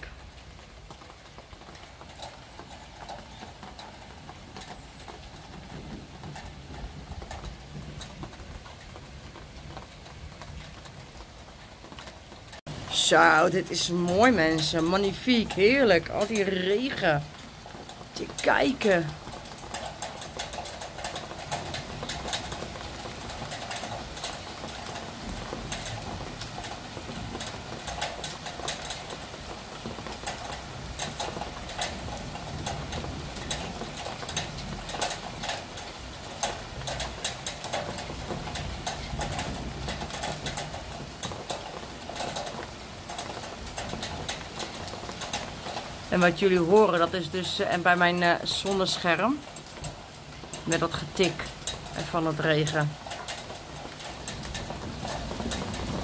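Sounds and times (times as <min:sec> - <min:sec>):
raindrops tapping on fabric awning: 0:00.0 - 0:56.0
steady hiss of rainfall: 0:00.0 - 0:56.0.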